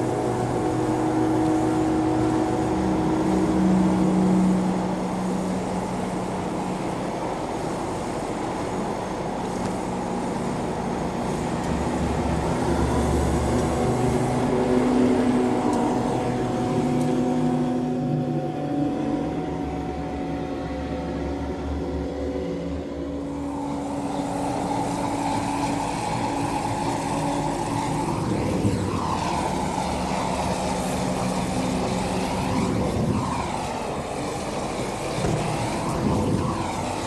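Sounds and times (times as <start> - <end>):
roar of gas flames: 0.0 - 20.1, 20.9 - 37.0.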